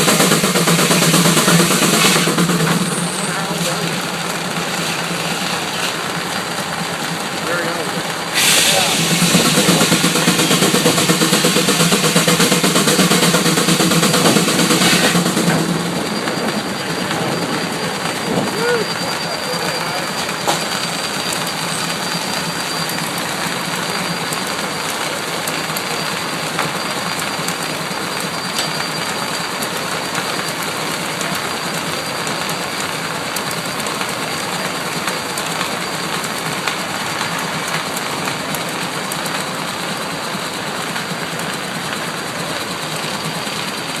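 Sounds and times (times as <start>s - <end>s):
machinery running: 0.0s - 44.0s.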